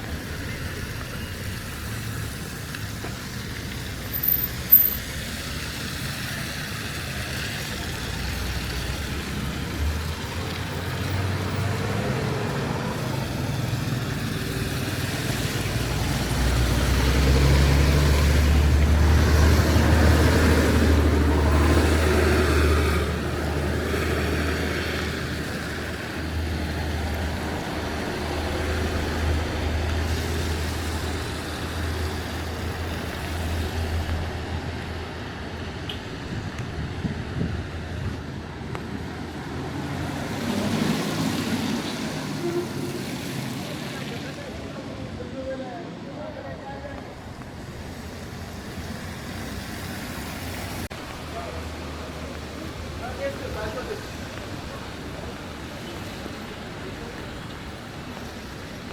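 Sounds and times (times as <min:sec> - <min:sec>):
road traffic passing: 0:00.0 - 0:58.9
vehicle engine rumble: 0:00.0 - 0:58.9.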